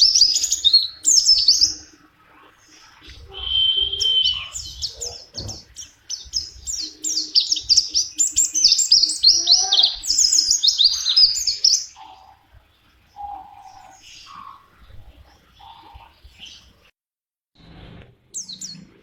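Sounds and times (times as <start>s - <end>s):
bird high chirping song: 0.0s - 16.9s, 18.3s - 19.0s.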